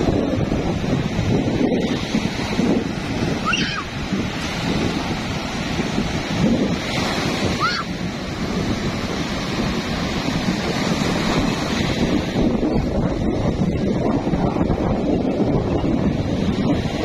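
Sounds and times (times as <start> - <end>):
small waves breaking on sand: 0.0 - 17.0
wind buffeting microphone: 0.0 - 17.0.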